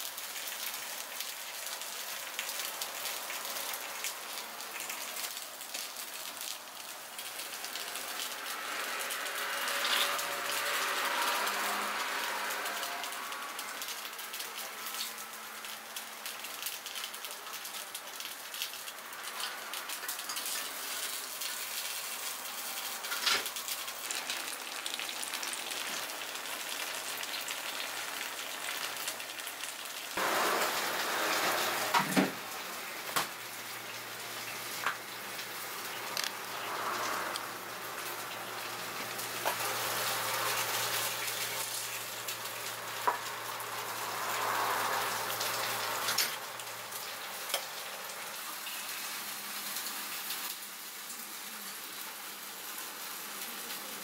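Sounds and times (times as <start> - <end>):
oil sizzling in a pan: 0.0 - 54.0.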